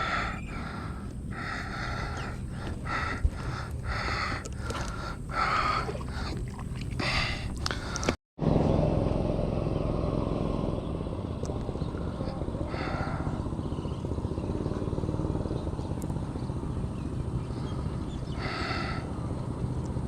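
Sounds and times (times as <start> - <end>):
motor engine running: 0.0 - 20.0.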